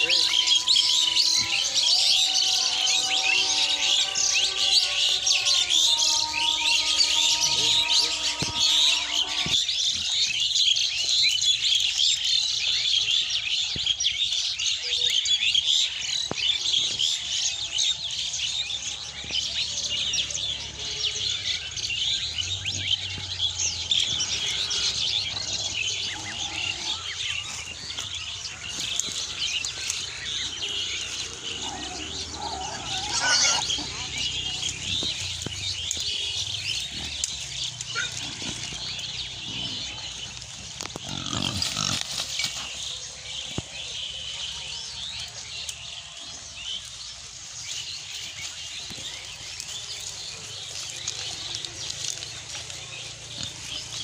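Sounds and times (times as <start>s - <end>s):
small birds chirping and twittering: 0.0s - 54.0s.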